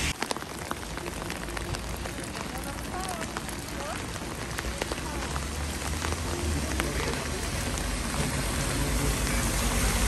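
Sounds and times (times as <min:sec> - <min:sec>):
car on wet road: 0:00.0 - 0:10.0
heavy rain on street: 0:00.0 - 0:10.0.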